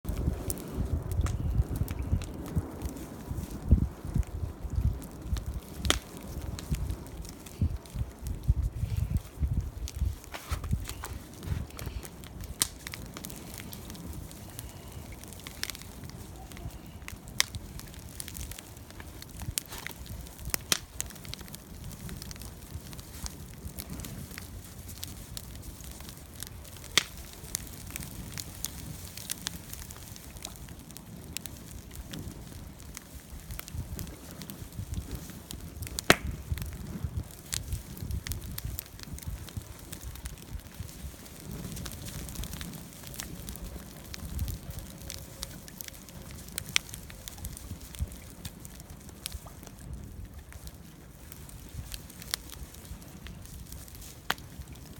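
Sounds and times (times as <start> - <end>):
campfire crackling and popping: 0.0 - 54.9
low rumble of flame: 0.0 - 54.9.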